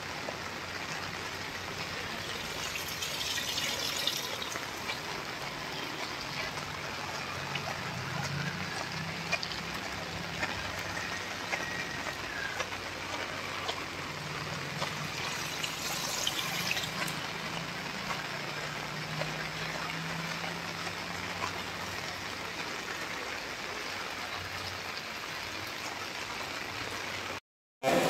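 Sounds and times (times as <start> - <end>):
heavy rain on road and trees: 0.0 - 28.0.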